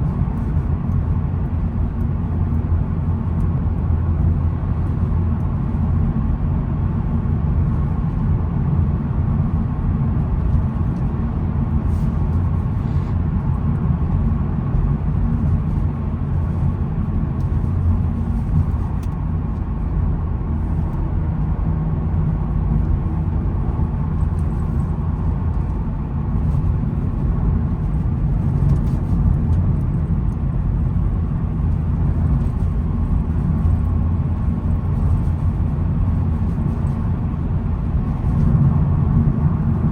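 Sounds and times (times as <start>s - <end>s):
engine hum: 0.0s - 39.9s
road rumble: 0.0s - 39.9s.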